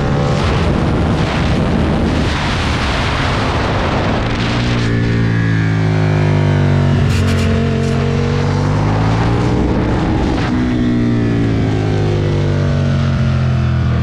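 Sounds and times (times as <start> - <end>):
motorcycle engine revving: 0.0 - 14.0
wind noise: 0.0 - 14.0.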